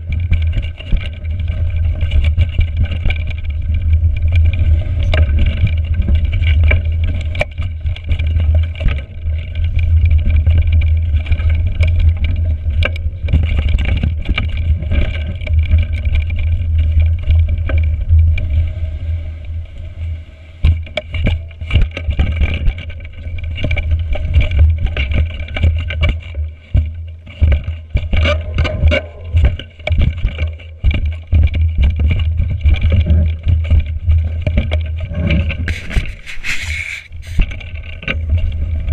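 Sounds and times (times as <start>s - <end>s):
bike rattling over roots: 0.0s - 18.9s, 20.6s - 38.9s
low wind rumble on microphone: 0.0s - 38.9s.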